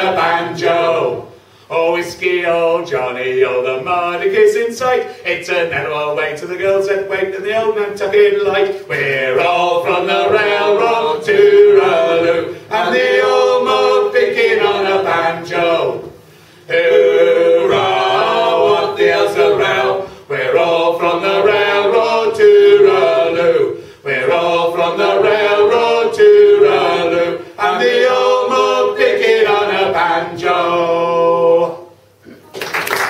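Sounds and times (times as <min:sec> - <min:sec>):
people singing a cappella in harmony: 0:00.0 - 0:32.2.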